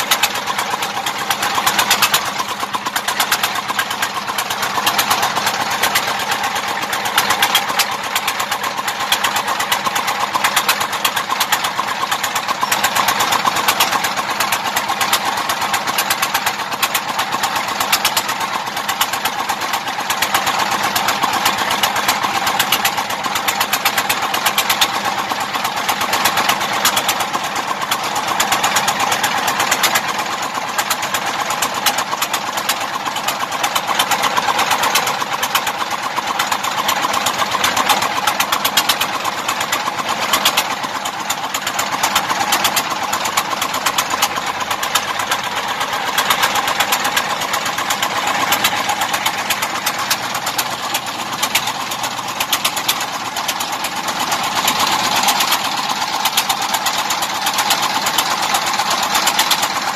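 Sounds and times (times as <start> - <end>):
small pump engine running: 0.0 - 59.9.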